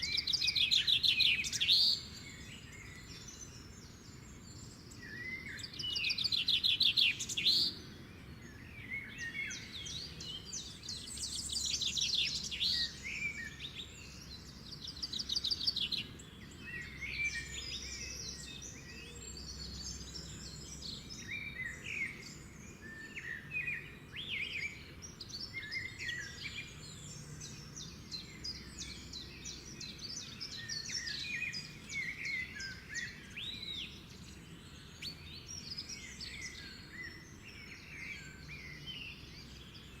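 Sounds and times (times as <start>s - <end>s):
birds chirping and trilling: 0.0s - 40.0s.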